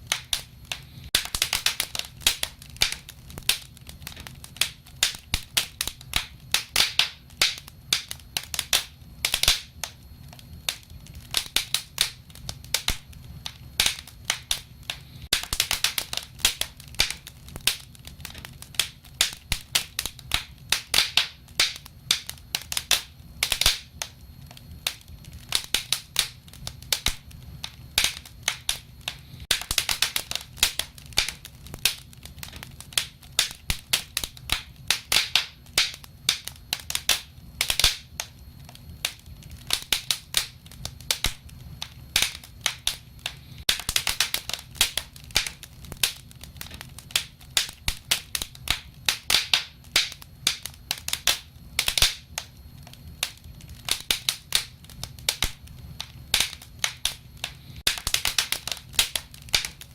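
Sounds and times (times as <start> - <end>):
low rumble of burning: 0.0 - 59.9
wood fire crackling: 0.0 - 59.9.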